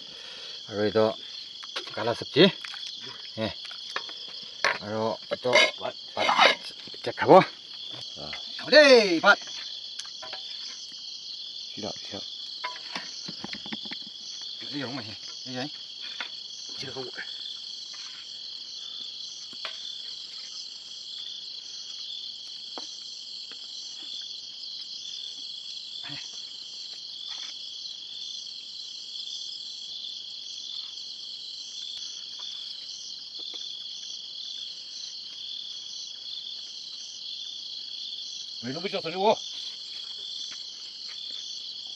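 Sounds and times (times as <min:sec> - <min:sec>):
night insects chorus: 0:00.0 - 0:41.9.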